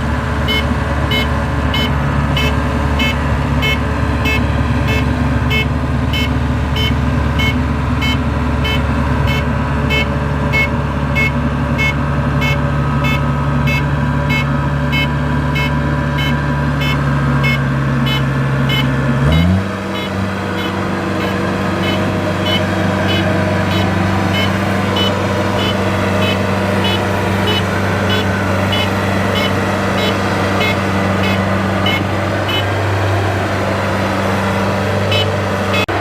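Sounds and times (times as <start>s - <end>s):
diesel engine running: 0.0s - 36.0s
electronic warning beeps: 0.5s - 32.8s, 35.1s - 35.9s.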